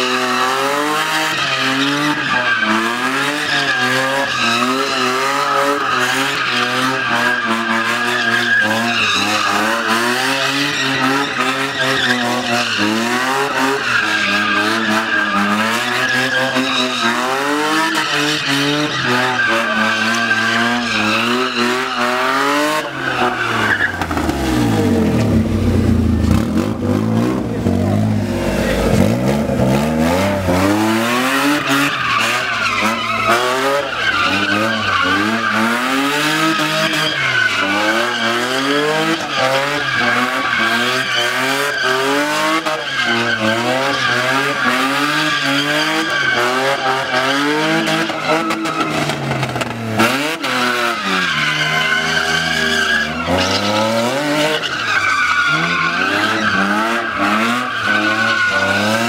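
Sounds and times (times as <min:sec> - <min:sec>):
car engine revving: 0:00.0 - 0:59.0
tyre squeal: 0:00.1 - 0:25.4, 0:28.4 - 0:59.0.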